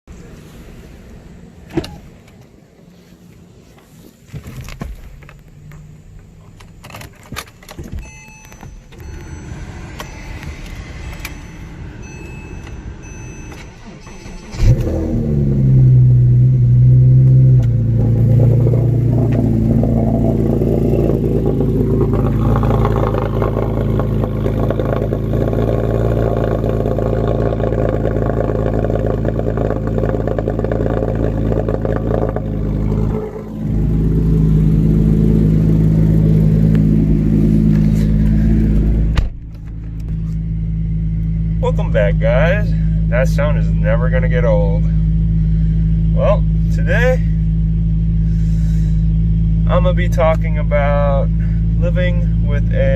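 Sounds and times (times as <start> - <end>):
car engine starting and idling: 0.1 - 52.9.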